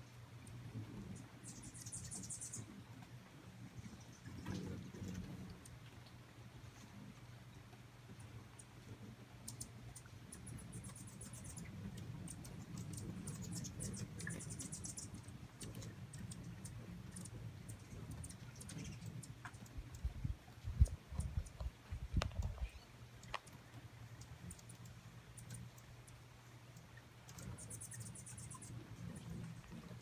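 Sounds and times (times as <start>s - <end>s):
low steady hum: 0.0s - 30.0s
hummingbirds chattering: 0.1s - 30.0s.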